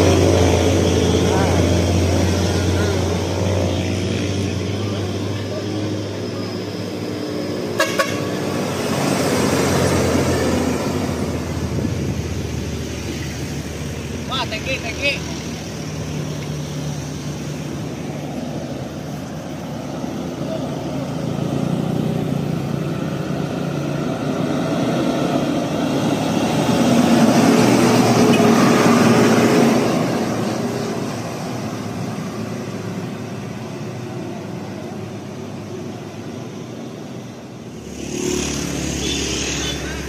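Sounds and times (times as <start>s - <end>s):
vehicle passing: 0.0s - 33.7s, 37.7s - 40.0s.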